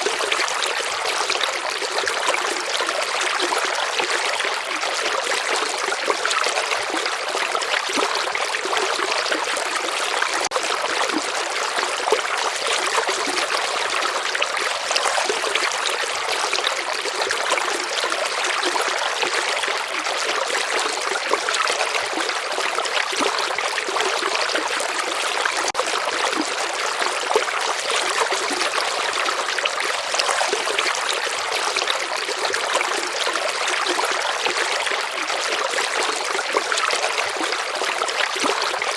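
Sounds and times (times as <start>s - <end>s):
shallow stream babbling: 0.0s - 38.9s.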